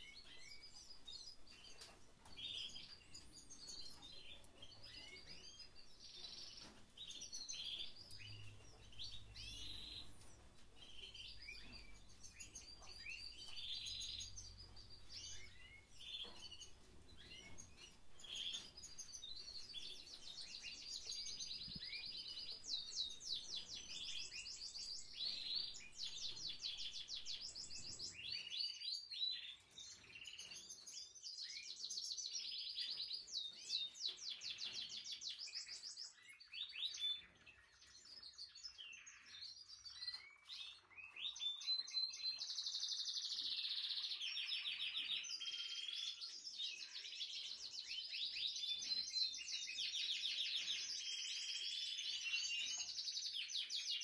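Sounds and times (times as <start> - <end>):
canaries singing trills: 0.0 - 54.0.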